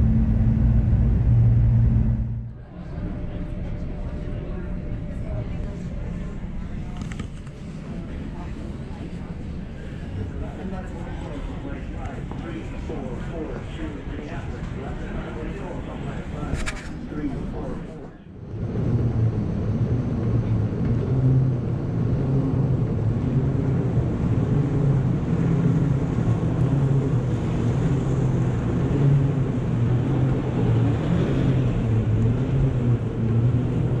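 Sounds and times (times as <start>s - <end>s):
echoing tunnel noise: 0.0s - 34.0s
moving walkway rumble: 0.0s - 34.0s.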